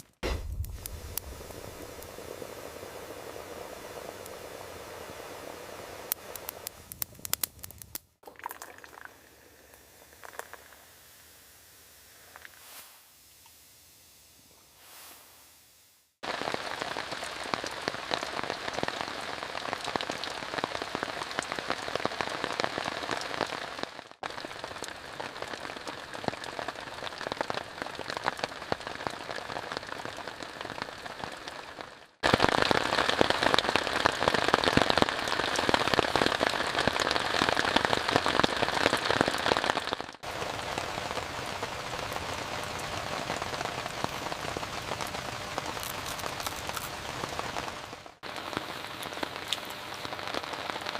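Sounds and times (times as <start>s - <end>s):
rain falling on a tent: 0.0s - 7.4s, 16.2s - 50.9s.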